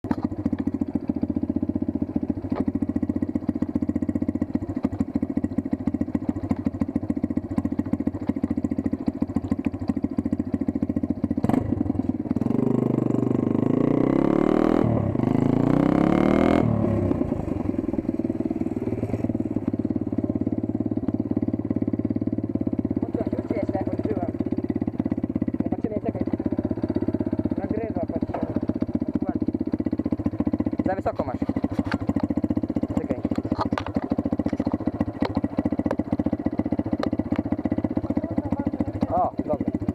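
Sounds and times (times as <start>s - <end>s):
dirt bike engine idling and revving: 0.0s - 39.9s.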